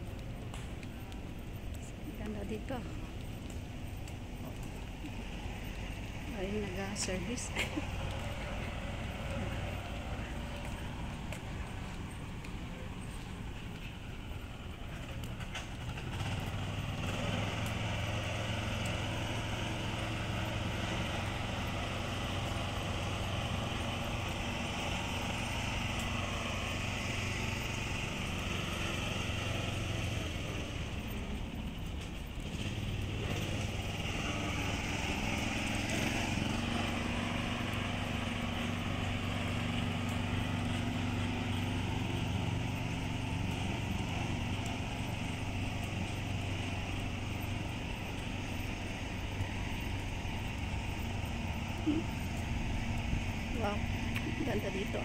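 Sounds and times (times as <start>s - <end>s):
small motor engine running: 0.0s - 55.0s.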